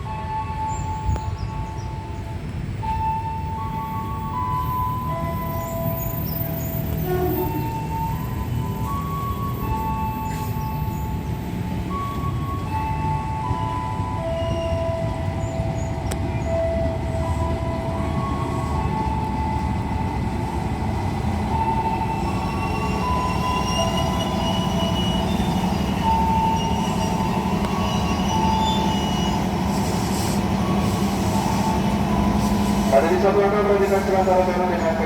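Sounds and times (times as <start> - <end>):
train rumbling on rails: 0.0 - 35.0
train wheel squeals: 3.2 - 20.1, 21.5 - 35.0.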